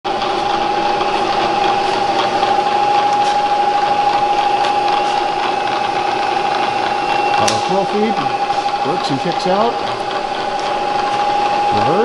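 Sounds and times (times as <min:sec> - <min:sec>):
milling machine spindle whine: 0:00.1 - 0:12.0.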